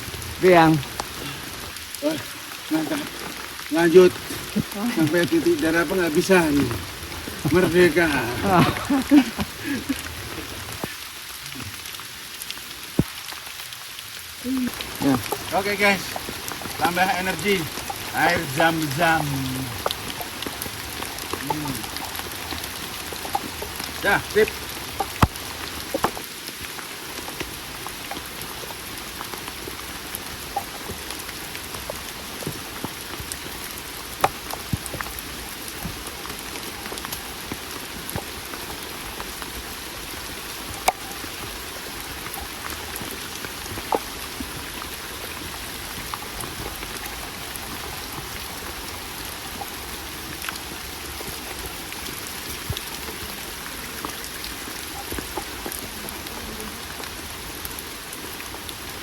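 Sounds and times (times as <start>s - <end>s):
raindrops ticking close by: 0.0s - 59.0s
steady rain hiss: 0.0s - 59.0s.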